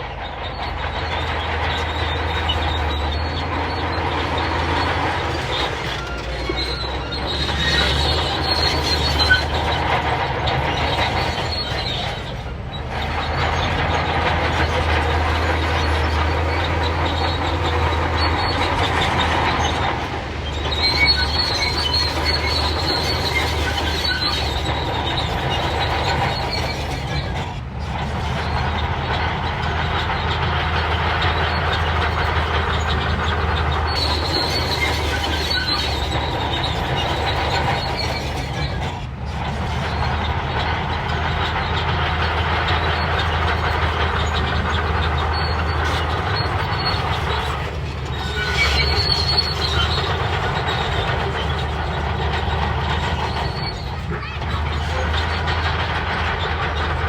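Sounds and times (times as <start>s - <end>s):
bulldozer diesel engine drone: 0.0s - 57.0s
steel tracks squealing and clanking: 0.0s - 57.0s.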